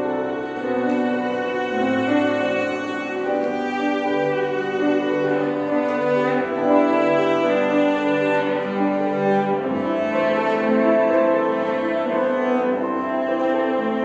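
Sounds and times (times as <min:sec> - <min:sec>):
cello line: 0:00.0 - 0:14.0
orchestra playing: 0:00.0 - 0:14.0.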